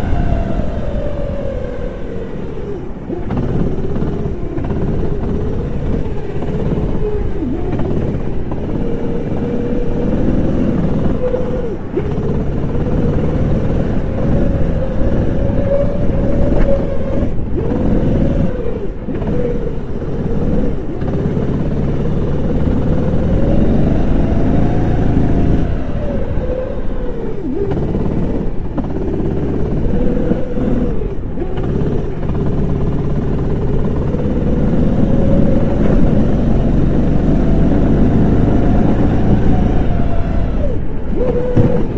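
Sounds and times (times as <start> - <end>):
kart engine revving: 0.0 - 41.9.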